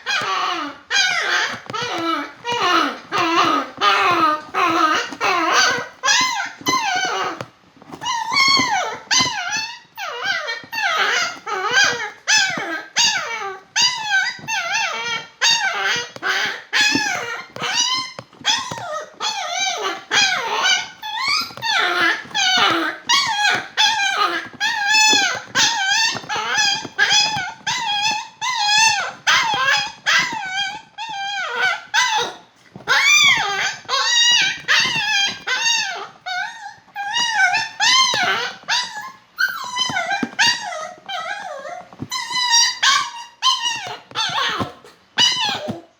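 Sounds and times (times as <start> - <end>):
dog whining and whimpering: 0.0 - 45.9.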